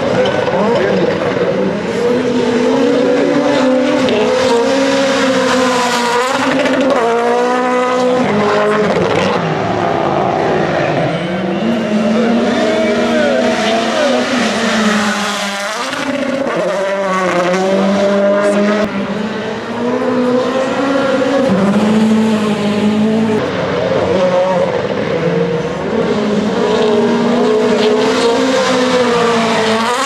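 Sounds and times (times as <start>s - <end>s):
racing car engine: 0.0s - 30.0s.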